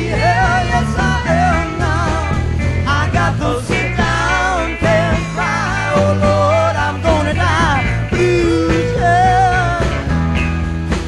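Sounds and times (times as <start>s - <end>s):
bass line: 0.0s - 11.0s
bending lead melody: 0.0s - 11.0s
drums: 0.0s - 11.0s.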